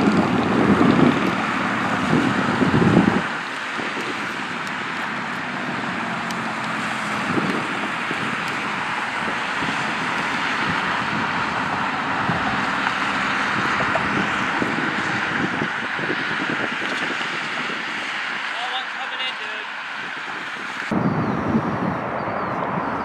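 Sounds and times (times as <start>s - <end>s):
jet engines at takeoff: 0.0s - 23.0s
wind buffeting microphone: 0.0s - 23.0s.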